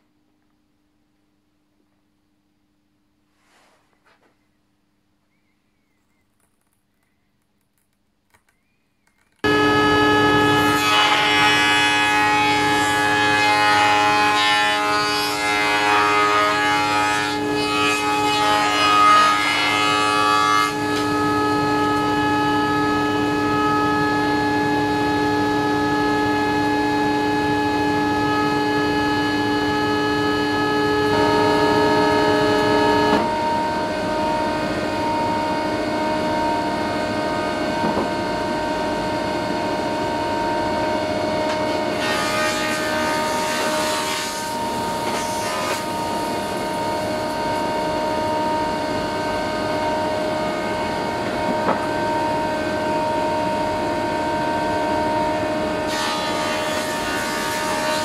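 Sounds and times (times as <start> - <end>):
planing machines whining: 9.4 - 58.0
wood cutting noise: 9.4 - 58.0.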